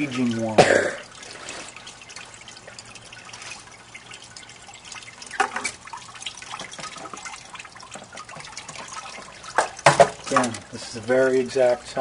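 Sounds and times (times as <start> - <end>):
wine trickling and dripping: 0.0 - 12.0.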